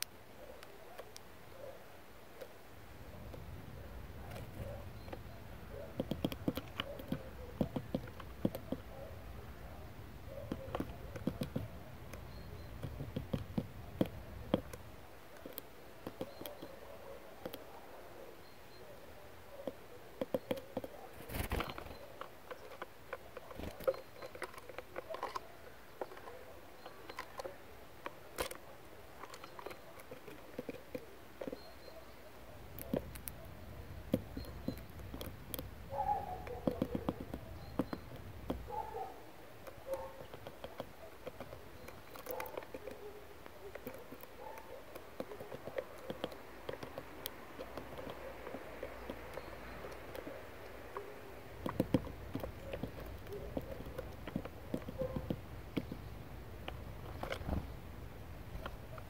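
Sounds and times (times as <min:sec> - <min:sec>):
bird pecking at fat ring: 0:02.2 - 0:17.7, 0:18.4 - 0:59.0.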